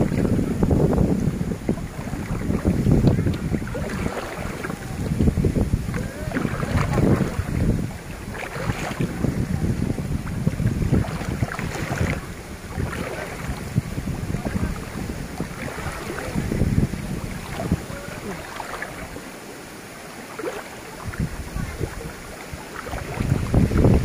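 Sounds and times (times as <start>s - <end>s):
wind buffeting microphone: 0.0s - 19.3s, 20.9s - 24.0s
water lapping and splashing: 0.0s - 24.0s.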